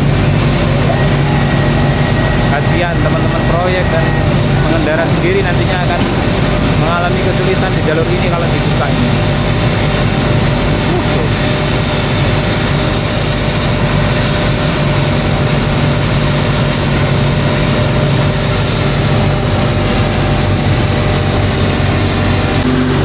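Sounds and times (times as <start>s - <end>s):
heavy machinery engine running: 0.0s - 23.0s.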